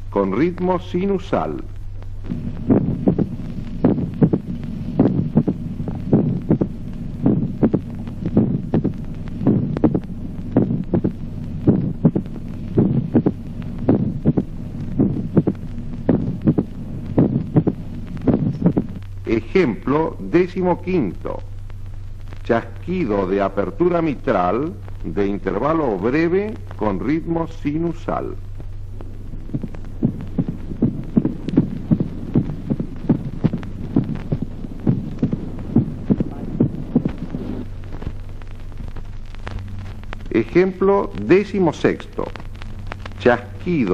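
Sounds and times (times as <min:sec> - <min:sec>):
steady low hum: 0:00.0 - 0:43.9
heartbeat: 0:01.4 - 0:43.9.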